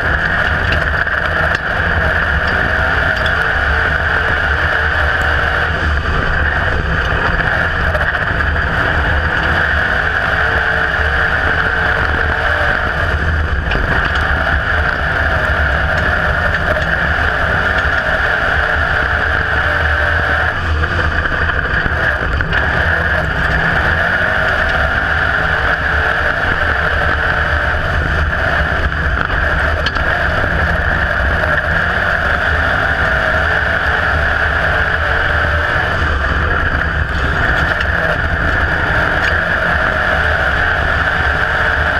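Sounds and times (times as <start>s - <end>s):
race car engine running hard: 0.0s - 41.9s.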